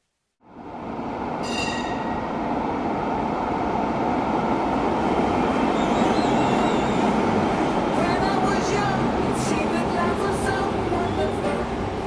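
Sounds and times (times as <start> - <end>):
train wheels rumbling: 0.6 - 12.0.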